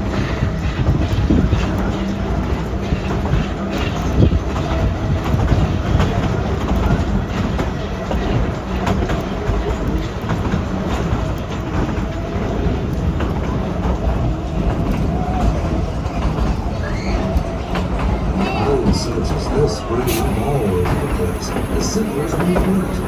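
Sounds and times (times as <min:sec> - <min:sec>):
train cars rumbling: 0:00.0 - 0:23.0
wheels clacking over rails: 0:02.3 - 0:23.0.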